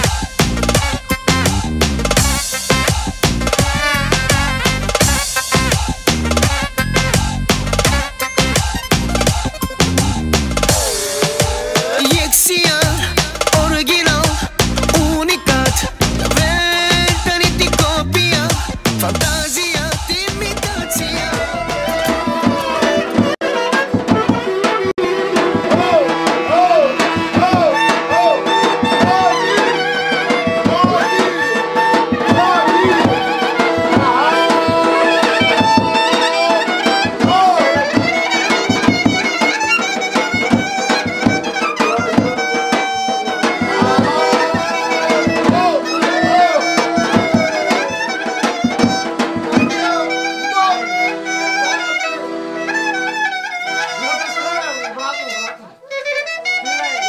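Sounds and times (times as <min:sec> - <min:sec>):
steady drum beat: 0:00.0 - 0:51.7
ornamented folk melody: 0:00.0 - 0:57.0.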